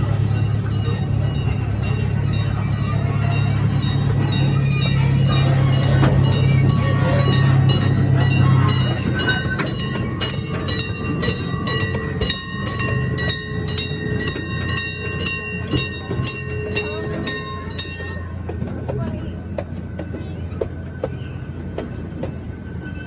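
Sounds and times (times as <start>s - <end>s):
low engine hum: 0.0s - 22.6s
rail-joint clicks: 0.0s - 23.0s.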